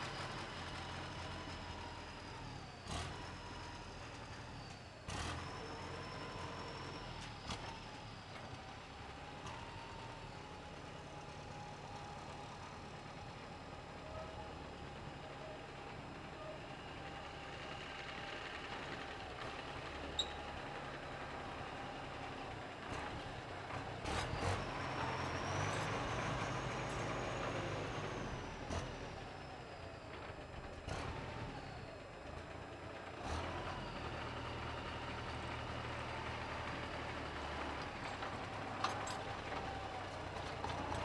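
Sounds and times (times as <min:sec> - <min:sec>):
diesel tractor engine running: 0:00.0 - 0:41.0.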